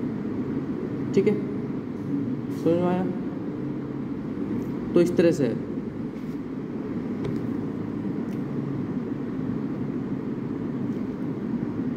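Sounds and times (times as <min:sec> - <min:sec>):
low rumbling background noise: 0:00.0 - 0:11.9.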